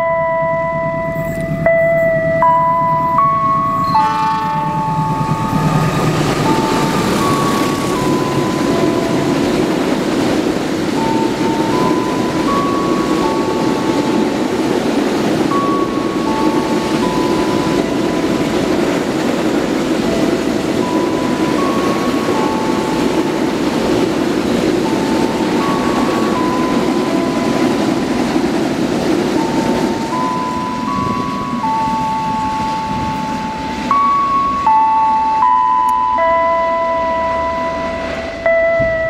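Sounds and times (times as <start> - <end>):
freight train rumbling on track: 0.0 - 39.0
high held tones: 0.0 - 39.0.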